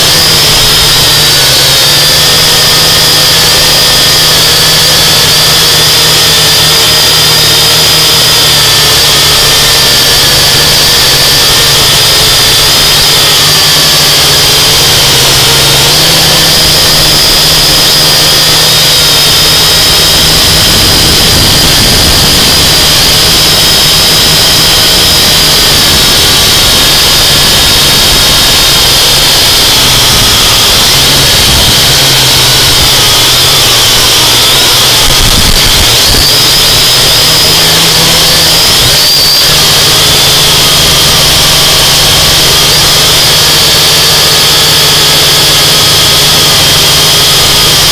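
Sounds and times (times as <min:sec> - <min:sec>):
drone motors and propellers whining: 0:00.0 - 0:47.9.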